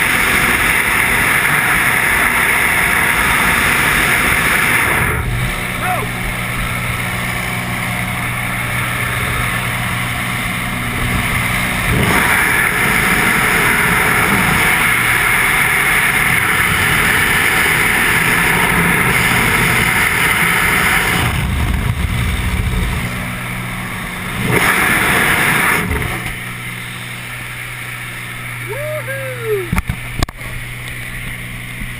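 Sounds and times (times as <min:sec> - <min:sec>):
small plane engine drone: 0:00.0 - 0:31.9.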